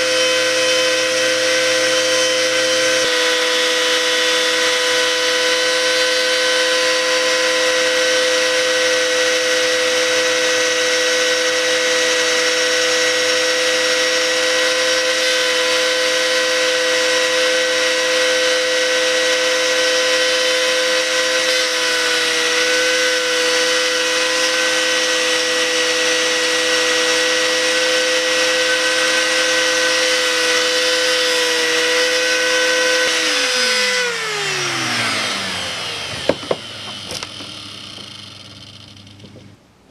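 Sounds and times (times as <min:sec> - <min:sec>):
rotary tool grinding whine: 0:00.0 - 0:39.6.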